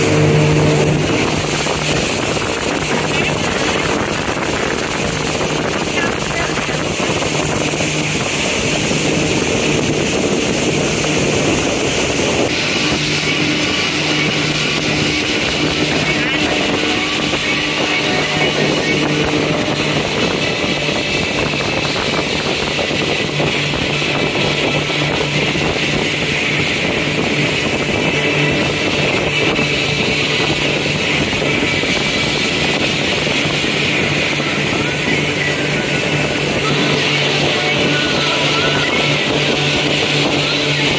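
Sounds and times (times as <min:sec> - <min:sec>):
boat engine hum: 0:00.0 - 0:40.9
water rushing: 0:00.0 - 0:40.9
wind buffeting microphone: 0:00.0 - 0:40.9.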